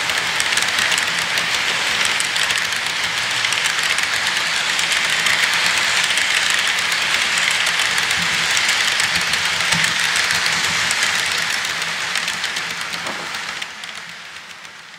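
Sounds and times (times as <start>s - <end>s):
model train cars rolling: 0.0s - 14.9s
wheels clicking over rail joints: 0.0s - 14.9s.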